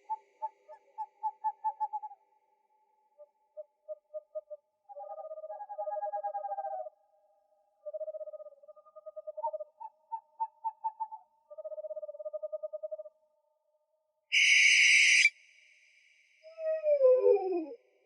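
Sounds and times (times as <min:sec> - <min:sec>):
owl pulsed trills: 0:00.0 - 0:02.2, 0:03.2 - 0:07.0, 0:07.8 - 0:13.2, 0:14.3 - 0:17.8.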